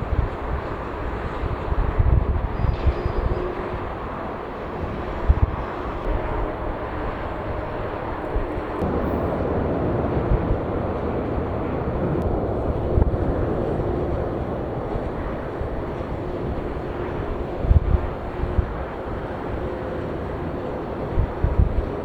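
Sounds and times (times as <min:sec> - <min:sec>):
jet engine rushing: 0:00.0 - 0:22.0
wind buffeting microphone: 0:00.0 - 0:22.0.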